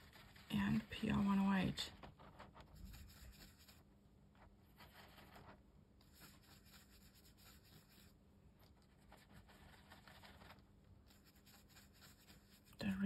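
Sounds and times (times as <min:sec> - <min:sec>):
brush on paper: 0:00.0 - 0:13.0.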